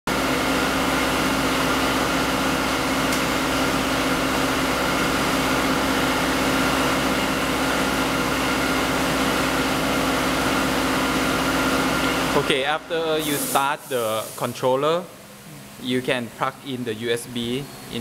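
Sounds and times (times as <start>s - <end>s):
machine hum and fan noise: 0.1s - 18.0s.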